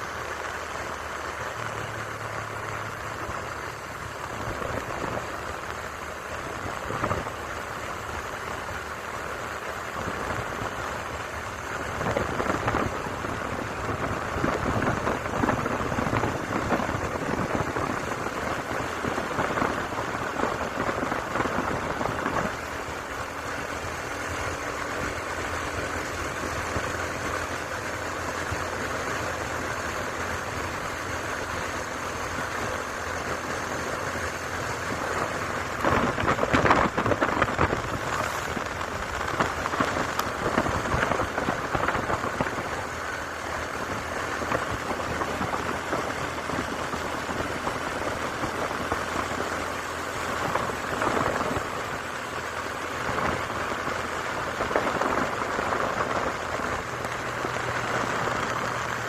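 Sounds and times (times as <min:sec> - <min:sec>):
vehicle on wet road: 0:00.0 - 0:59.0.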